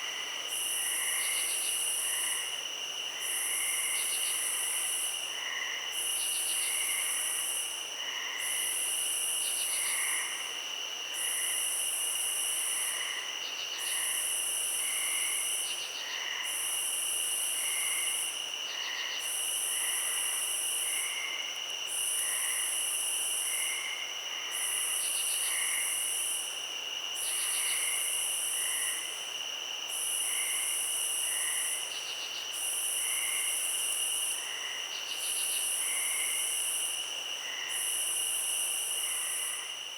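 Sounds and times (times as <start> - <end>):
shrill cricket trills: 0.0 - 39.9.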